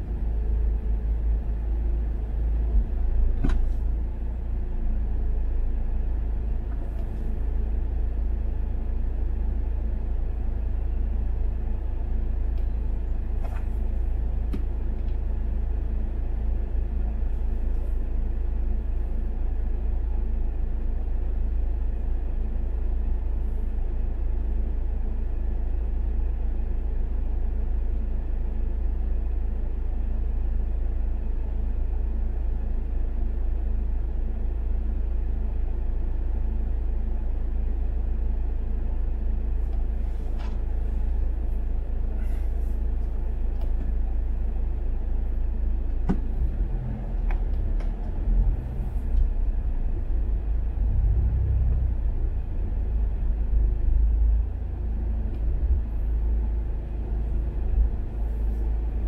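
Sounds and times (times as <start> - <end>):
car engine rumble in traffic: 0.0 - 59.0.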